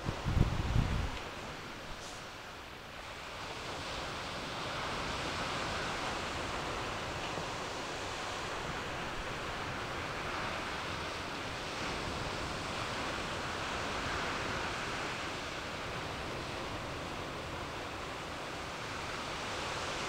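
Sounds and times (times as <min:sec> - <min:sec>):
ocean surf washing: 0:00.0 - 0:20.0.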